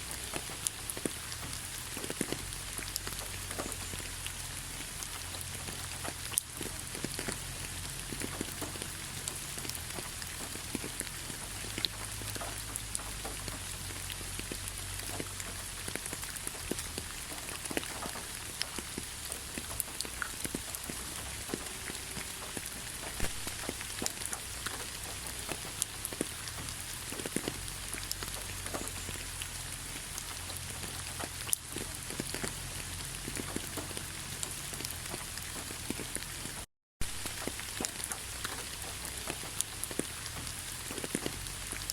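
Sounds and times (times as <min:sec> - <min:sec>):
rain drops ticking: 0:00.0 - 0:41.9.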